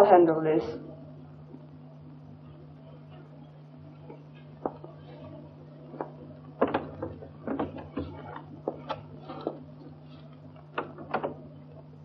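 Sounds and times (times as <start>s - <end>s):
film soundtrack low hum: 0.0s - 12.0s.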